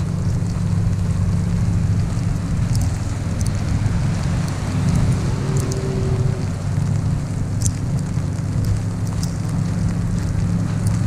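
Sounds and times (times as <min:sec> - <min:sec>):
ice ticking: 0:00.0 - 0:11.0
wind buffeting microphone: 0:00.0 - 0:11.0.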